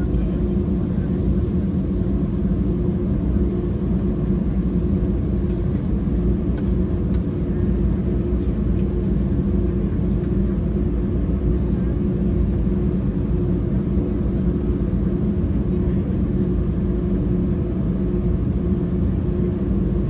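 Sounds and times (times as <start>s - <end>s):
jet engines rumbling in cabin: 0.0s - 20.0s.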